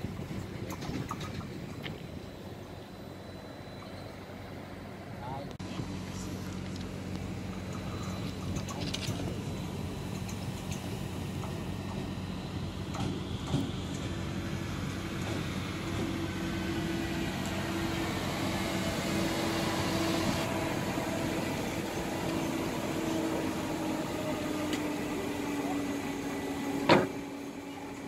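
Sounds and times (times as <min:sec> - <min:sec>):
electric locomotive hum: 0:00.0 - 0:28.0.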